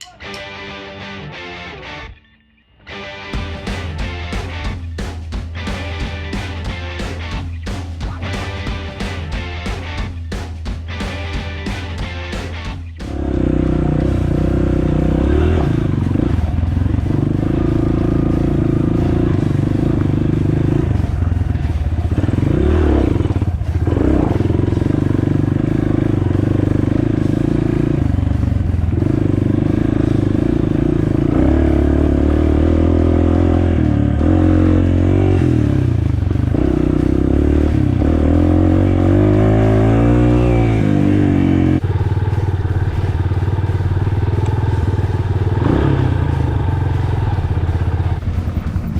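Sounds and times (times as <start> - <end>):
dirt bike engine running: 3.3 - 48.9
engine clatter: 3.4 - 48.9.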